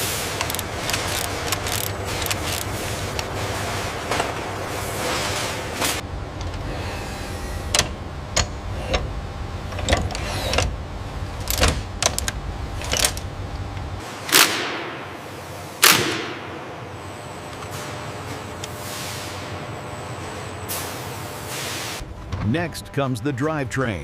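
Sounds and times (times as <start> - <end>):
machinery low hum: 0.0 - 24.0.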